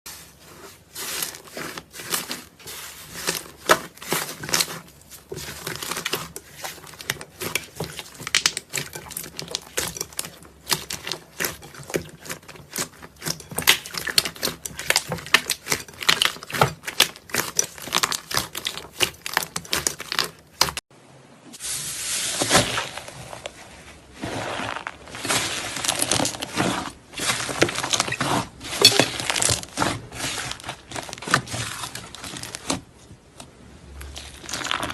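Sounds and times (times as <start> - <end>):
close crackling and crunching: 0.1 - 20.9, 22.4 - 34.9.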